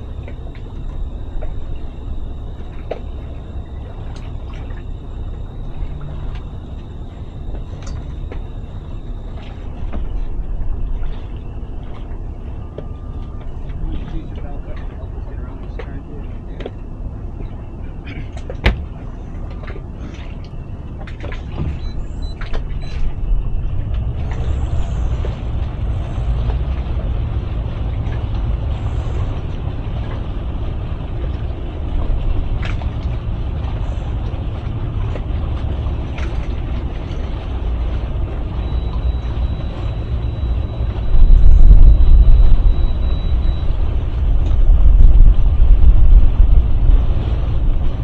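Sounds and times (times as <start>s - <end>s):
outboard motors running: 0.0s - 48.0s
wind rumbling on microphone: 0.0s - 48.0s.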